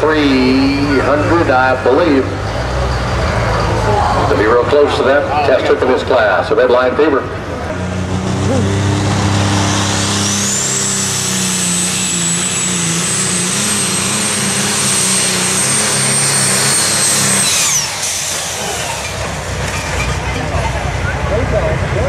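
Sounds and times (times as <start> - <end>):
tractor engine drone with whine: 0.0 - 22.0.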